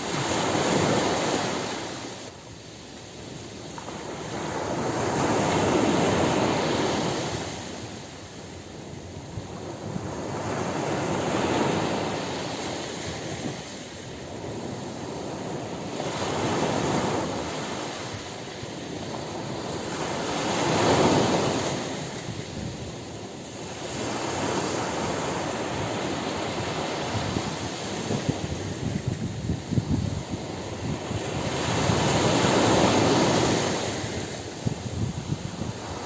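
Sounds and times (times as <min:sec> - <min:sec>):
ocean waves washing onto beach: 0:00.0 - 0:36.0.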